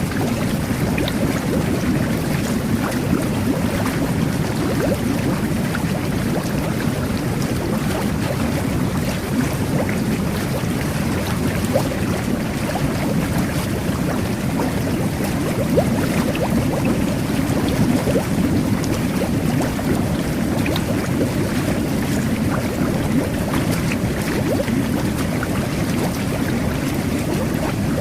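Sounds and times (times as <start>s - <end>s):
jet bath bubbling water: 0.0s - 28.0s.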